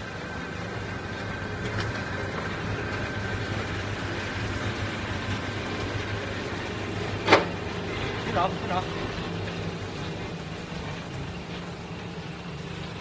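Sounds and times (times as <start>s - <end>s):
machine motor hum: 0.0s - 13.0s
thin high whine of rollers: 0.0s - 13.0s.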